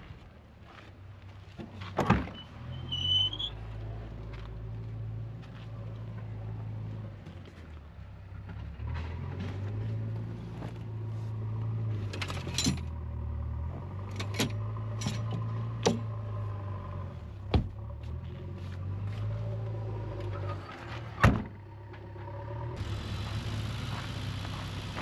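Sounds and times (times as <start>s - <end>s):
car engine drone: 2.6s - 25.0s.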